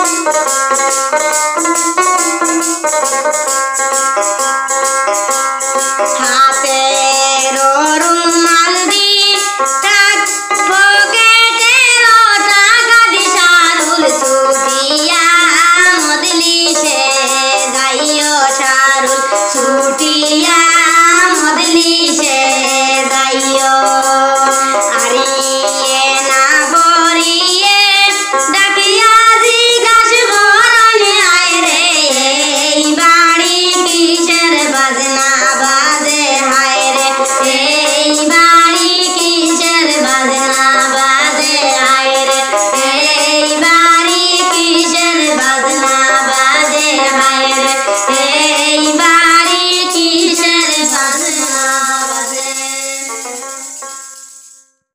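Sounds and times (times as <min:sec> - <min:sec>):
music accompaniment: 0:00.0 - 0:54.9
woman singing: 0:06.0 - 0:53.8.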